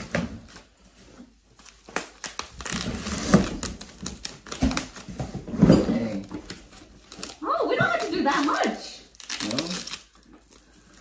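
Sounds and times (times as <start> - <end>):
cardboard and foam rustling: 0.0 - 11.0.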